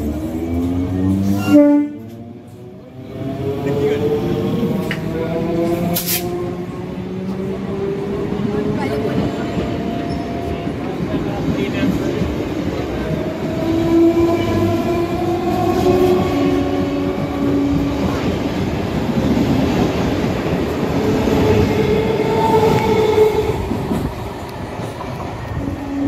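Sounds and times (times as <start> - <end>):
train whining tones: 0.0 - 11.1, 12.6 - 26.0
train wheels rumbling on rail: 0.0 - 26.0.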